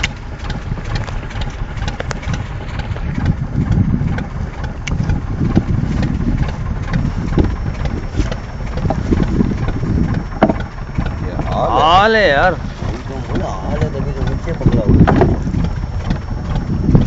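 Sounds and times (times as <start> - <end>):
boat engine rumble: 0.0 - 17.0
water rushing along hull: 0.0 - 17.0.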